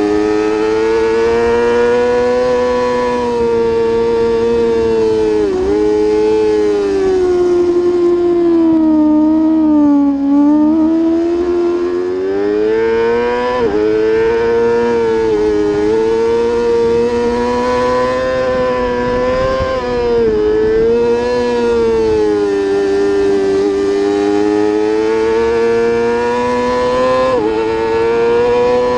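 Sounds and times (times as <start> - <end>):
motorcycle engine revving high: 0.0 - 28.9.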